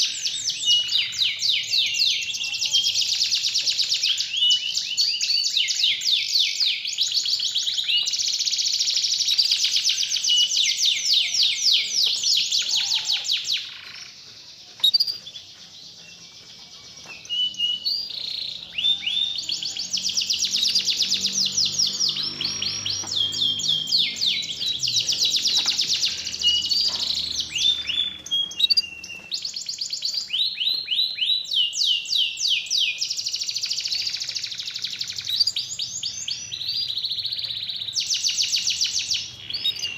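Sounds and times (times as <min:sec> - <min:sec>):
canary trills and chirps: 0:00.0 - 0:39.9.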